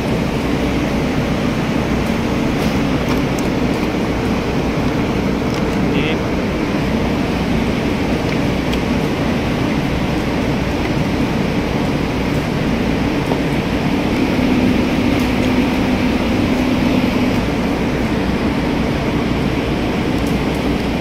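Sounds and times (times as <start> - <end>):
engine droning: 0.0 - 21.0
low hum: 0.0 - 21.0.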